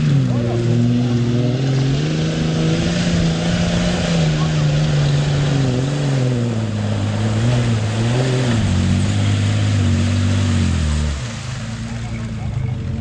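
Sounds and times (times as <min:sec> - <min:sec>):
engine straining in mud: 0:00.0 - 0:13.0.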